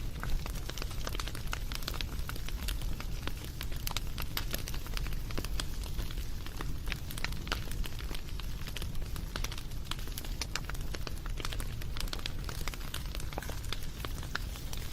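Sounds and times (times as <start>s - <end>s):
wood fire crackling: 0.0s - 14.9s.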